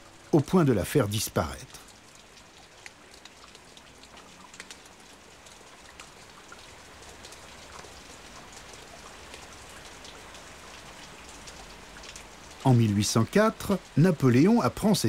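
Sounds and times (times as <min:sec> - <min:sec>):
rain-like patter: 0:00.0 - 0:15.0.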